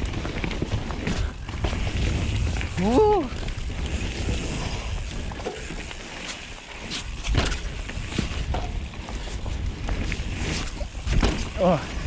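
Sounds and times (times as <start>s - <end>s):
bike knocks and rattles: 0.0s - 12.0s
bike tyres rumbling on dirt: 0.0s - 12.0s.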